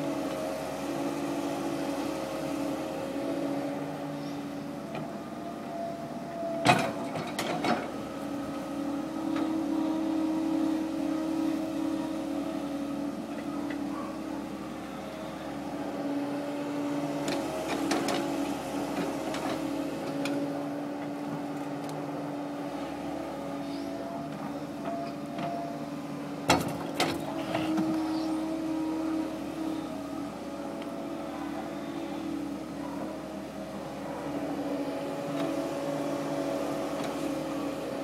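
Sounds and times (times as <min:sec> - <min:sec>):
excavator engine and hydraulics: 0:00.0 - 0:38.0.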